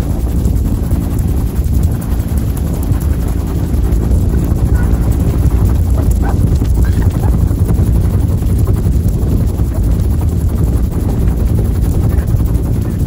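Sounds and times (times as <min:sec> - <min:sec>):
helicopter rotor beating: 0:00.0 - 0:13.0
turbine engine running: 0:00.0 - 0:13.0.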